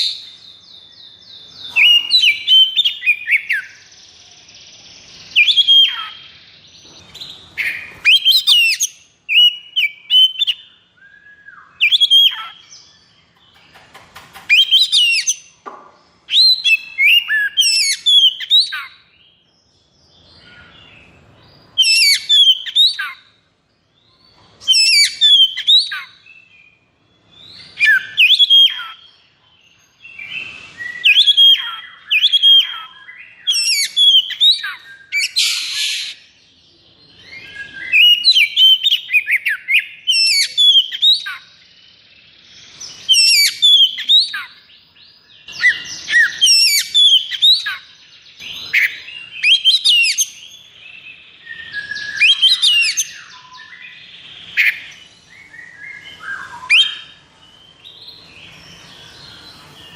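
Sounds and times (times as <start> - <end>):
bird singing sharp whistled notes: 0.0 - 13.0, 16.2 - 19.5, 24.0 - 59.9.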